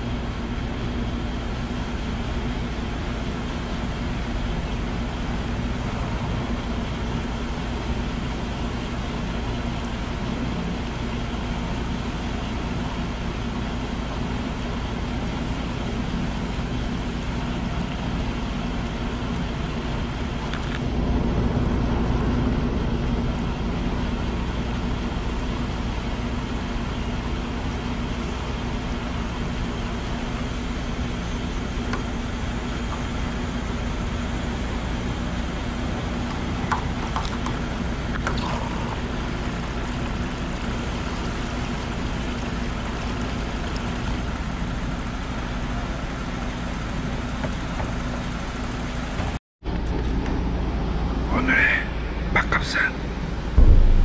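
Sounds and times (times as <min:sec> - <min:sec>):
fuel pump humming with rushing fuel: 0:00.0 - 0:54.0.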